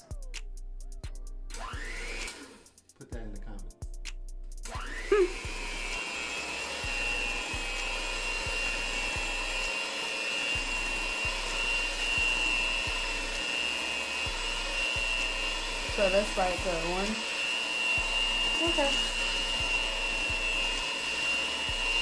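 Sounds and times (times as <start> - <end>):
electric mixer whining: 1.5 - 2.7, 4.6 - 22.0.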